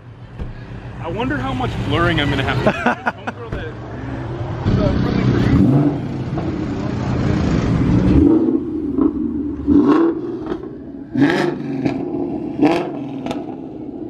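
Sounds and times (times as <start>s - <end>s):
vehicle engine rumbling and revving: 0.0s - 14.0s.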